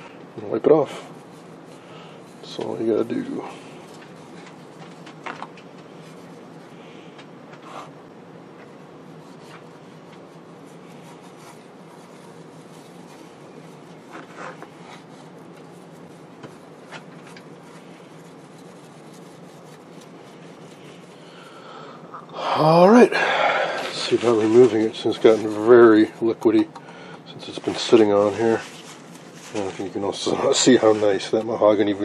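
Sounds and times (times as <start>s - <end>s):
hand rubbing paste on wood: 0.7s - 8.0s, 8.6s - 21.6s, 23.8s - 26.8s, 27.4s - 31.5s.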